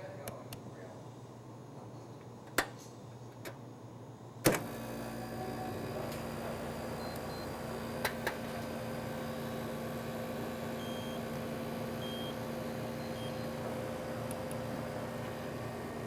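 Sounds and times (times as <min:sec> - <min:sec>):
electrical hum of equipment: 0:00.0 - 0:16.0.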